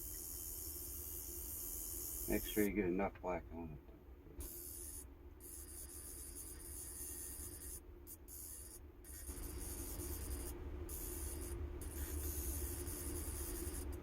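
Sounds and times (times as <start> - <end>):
tattoo machine buzzing: 0.0 - 2.7, 4.4 - 14.0.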